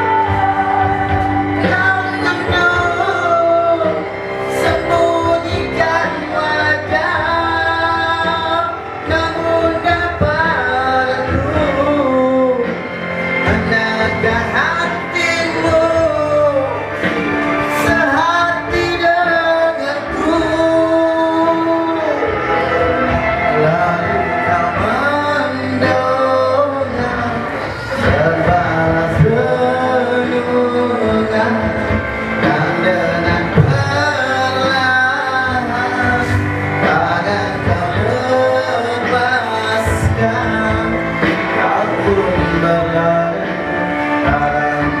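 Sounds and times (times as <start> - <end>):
person singing with instruments: 0.0 - 45.0.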